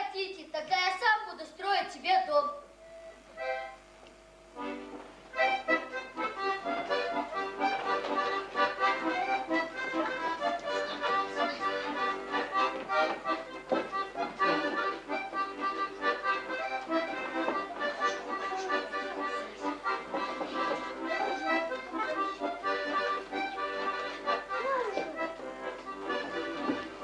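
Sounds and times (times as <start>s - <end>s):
accordion playing a tune: 0.7s - 27.0s.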